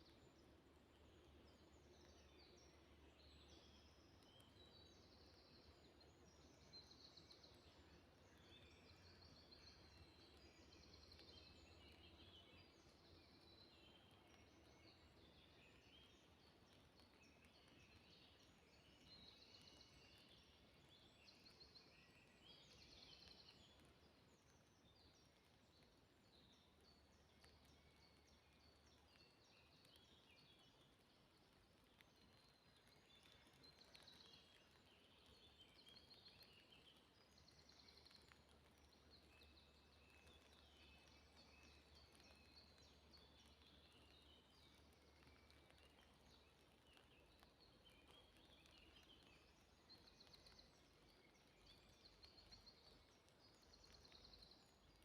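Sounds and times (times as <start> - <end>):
faint songbirds chirping: 0.0 - 55.0.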